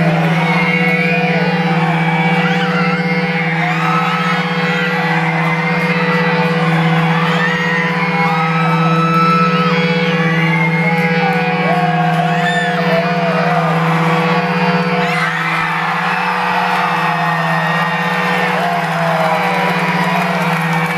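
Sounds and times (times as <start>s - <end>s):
crowd screaming and whooping: 0.0s - 20.9s.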